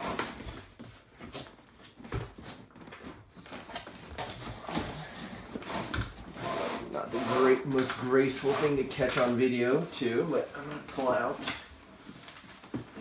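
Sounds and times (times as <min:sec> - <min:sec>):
cardboard rubbing and scraping: 0:00.0 - 0:13.0
plastic rustling: 0:00.0 - 0:13.0.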